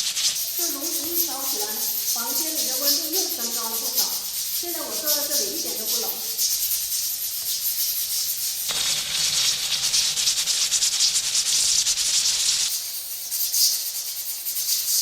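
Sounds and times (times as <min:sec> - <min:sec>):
pressure cooker valve rattling: 0:00.0 - 0:13.0
steam hissing: 0:00.0 - 0:15.0.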